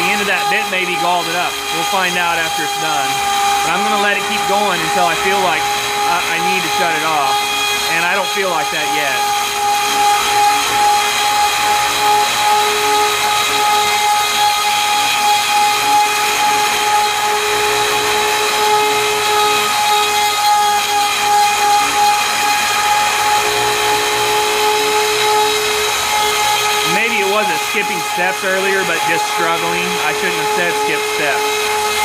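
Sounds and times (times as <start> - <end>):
router milling aluminum: 0.0 - 32.0.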